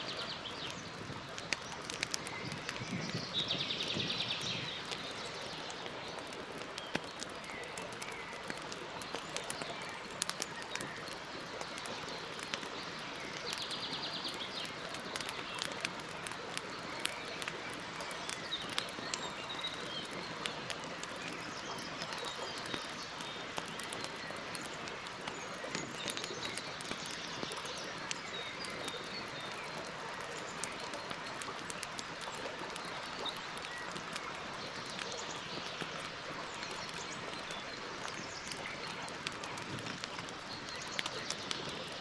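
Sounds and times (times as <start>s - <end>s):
campfire crackling and popping: 0.0s - 42.0s
small birds chirping faintly: 0.0s - 42.0s.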